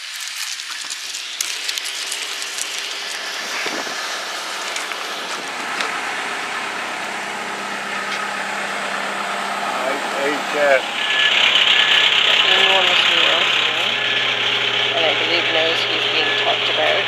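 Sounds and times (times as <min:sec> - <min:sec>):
motor humming: 0:00.6 - 0:17.0.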